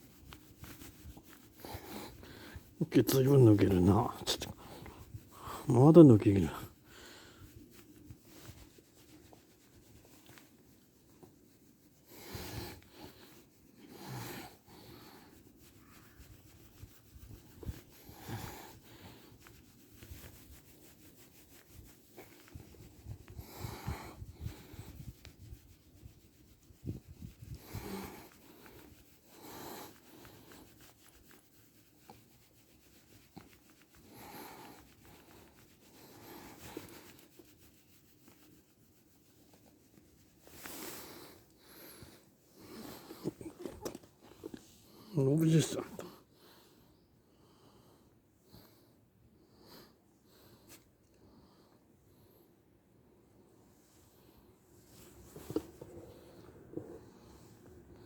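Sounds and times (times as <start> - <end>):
hand brushing fur: 0.0 - 46.3, 50.5 - 50.9, 53.7 - 58.0.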